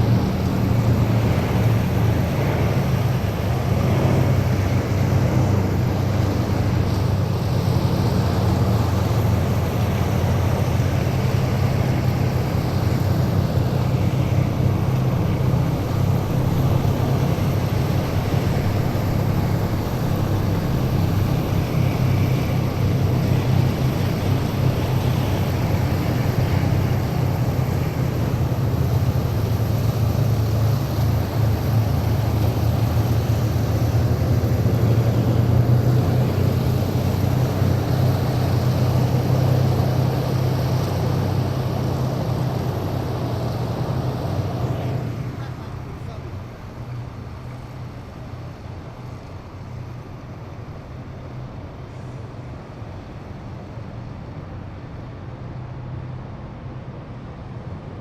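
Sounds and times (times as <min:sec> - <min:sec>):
heavy vehicles rumbling past: 0:00.0 - 0:58.0
road noise: 0:00.0 - 0:58.0.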